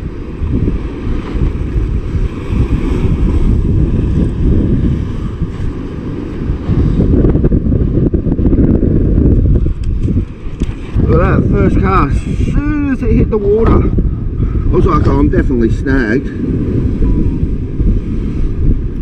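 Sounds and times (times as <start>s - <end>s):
surf washing against rocks: 0.0s - 19.0s
wind buffeting microphone: 0.0s - 19.0s.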